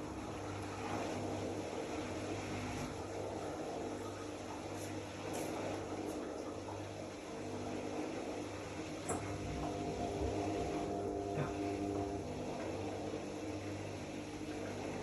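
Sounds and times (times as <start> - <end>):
steady multi-tone hum: 0.0 - 15.0
washing machine running: 0.0 - 15.0
water moving inside machine: 0.0 - 15.0.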